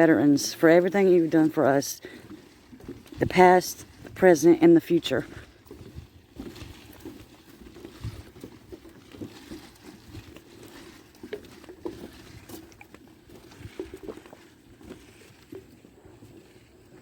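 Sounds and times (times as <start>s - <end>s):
soft footsteps on trail: 0.0s - 17.0s.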